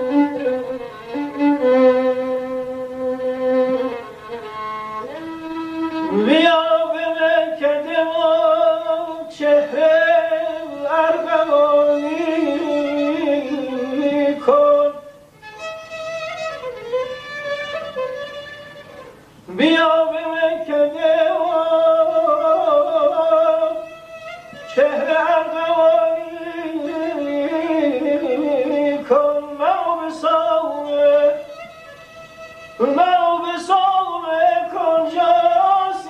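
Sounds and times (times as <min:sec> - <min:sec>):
solo violin melody: 0:00.0 - 0:36.0.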